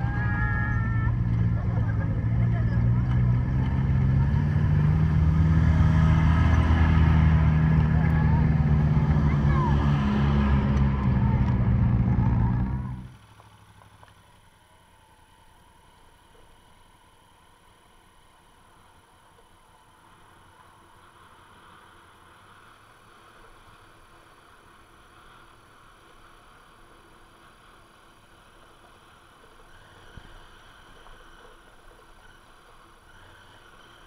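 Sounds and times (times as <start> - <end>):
low motorcycle engine hum: 0.0 - 34.0.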